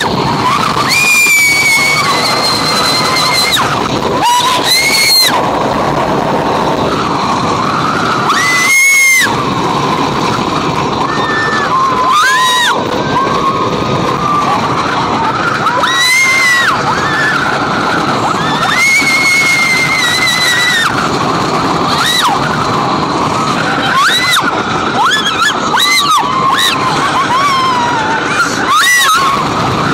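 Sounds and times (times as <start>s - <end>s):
riders screaming: 0.0s - 29.9s
roller coaster train rattling on track: 0.0s - 29.9s
wind rushing: 0.0s - 29.9s.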